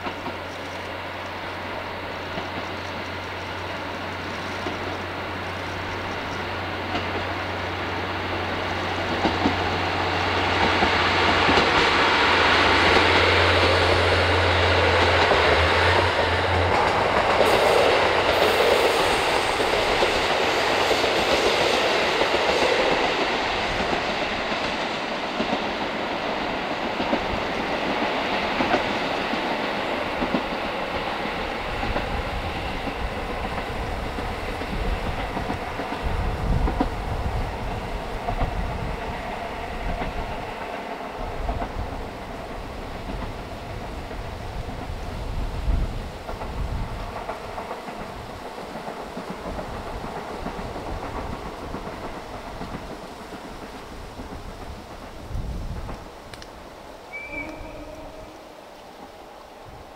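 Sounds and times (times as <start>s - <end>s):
train wheels clicking over rail joints: 0.0s - 57.6s.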